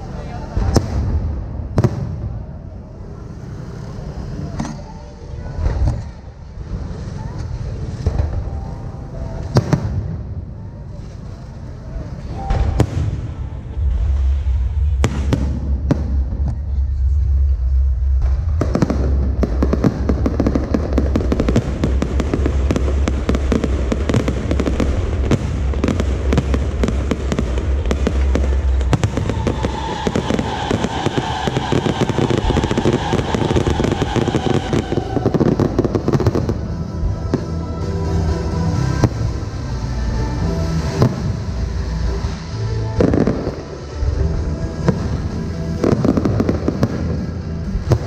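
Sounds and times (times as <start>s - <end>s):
firecrackers crackling: 0.0s - 4.6s, 5.6s - 48.0s
low hum: 0.0s - 48.0s.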